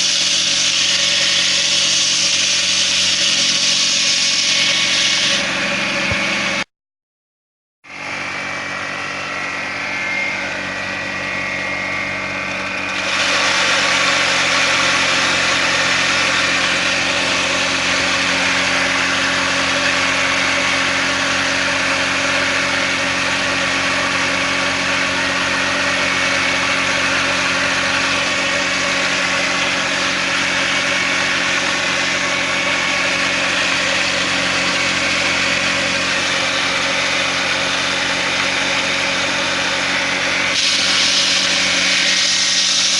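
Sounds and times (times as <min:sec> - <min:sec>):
grinder motor humming: 0:00.0 - 0:06.7, 0:07.9 - 0:42.9.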